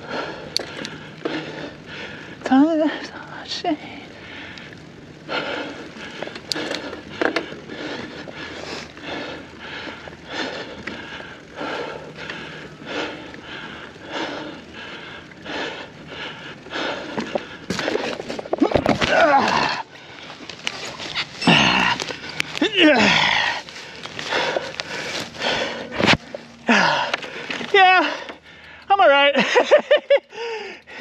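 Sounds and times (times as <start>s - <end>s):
person breathing hard: 0.0s - 2.4s, 3.0s - 28.9s, 29.9s - 31.0s
bike clattering on trail: 0.0s - 3.2s, 3.9s - 31.0s
jumble of noise: 0.0s - 31.0s.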